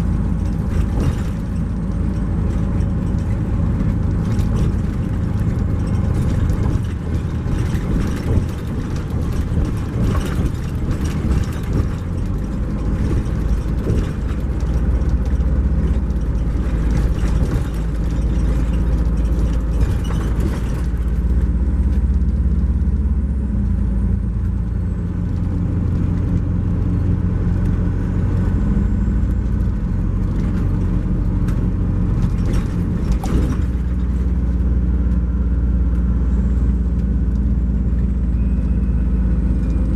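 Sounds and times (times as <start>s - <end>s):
small rattles and knocks: 0.0s - 22.4s, 25.2s - 35.2s
diesel engine running: 0.0s - 39.9s
road noise: 0.0s - 39.9s.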